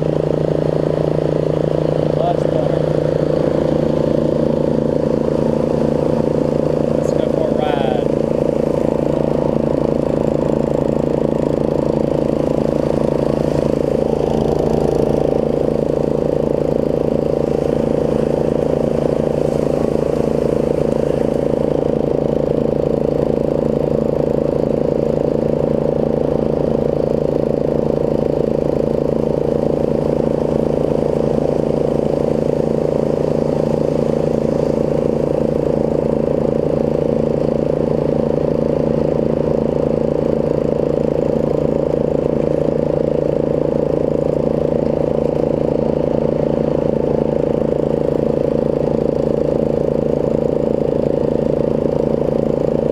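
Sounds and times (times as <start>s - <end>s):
riding mower engine running: 0.0s - 52.9s.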